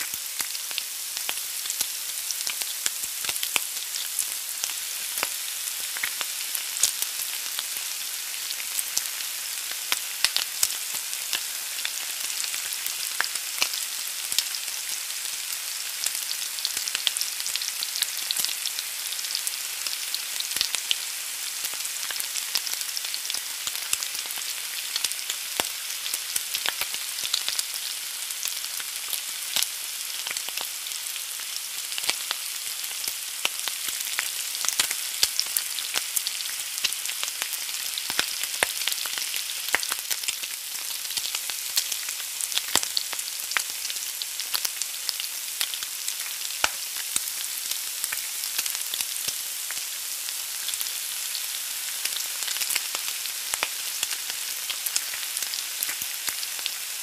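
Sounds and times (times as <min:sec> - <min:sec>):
egg sizzling in a pan: 0:00.0 - 0:57.0.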